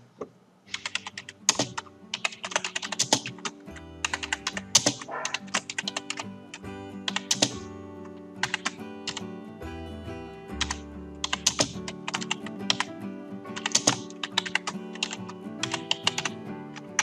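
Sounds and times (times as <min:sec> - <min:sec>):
keyboard typing: 0:00.7 - 0:09.3, 0:10.6 - 0:17.0
background music with held tones: 0:00.7 - 0:17.0.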